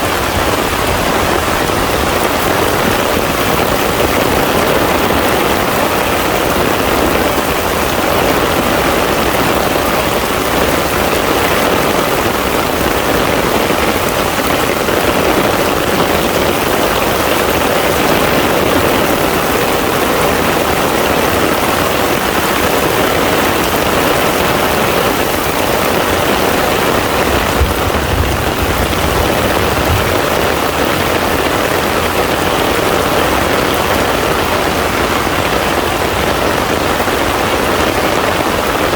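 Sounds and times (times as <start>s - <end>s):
heavy rain on pond water: 0.0s - 38.9s.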